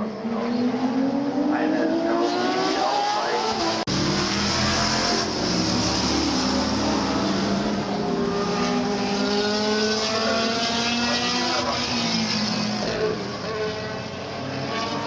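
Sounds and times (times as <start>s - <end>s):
racing car engines at high revs: 0.0s - 15.0s.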